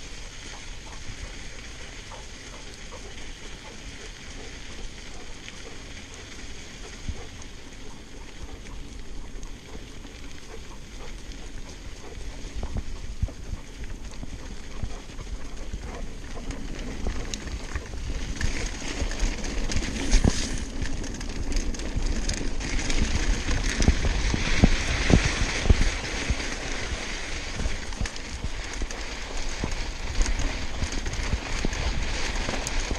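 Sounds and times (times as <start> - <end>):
bike knocking and rattling: 0.0 - 32.9
tyres rolling on loose ground: 0.0 - 32.9
wind rumble on microphone: 0.0 - 32.9.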